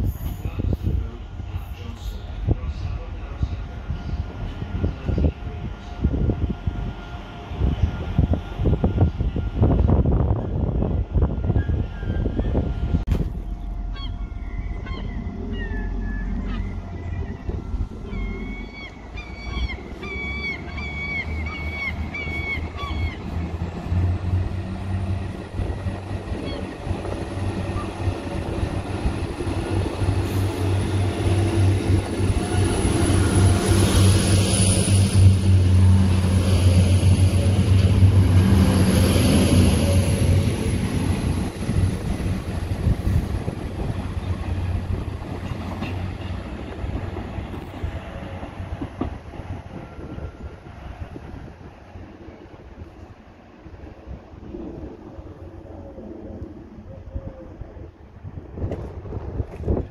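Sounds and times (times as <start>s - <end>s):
diesel train engine drone: 0.0s - 59.9s.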